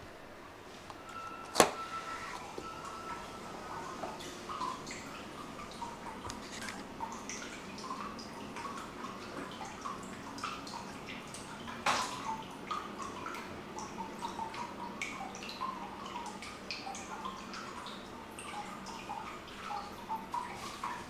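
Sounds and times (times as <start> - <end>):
water dripping into bathtub: 2.6 - 21.0.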